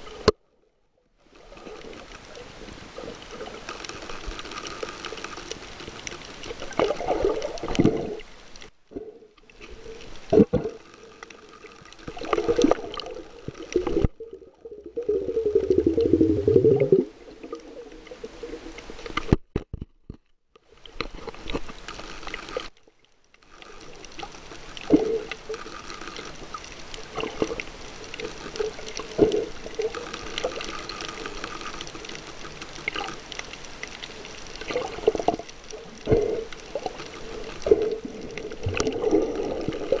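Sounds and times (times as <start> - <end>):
underwater bubbling and swirling: 0.0 - 40.0.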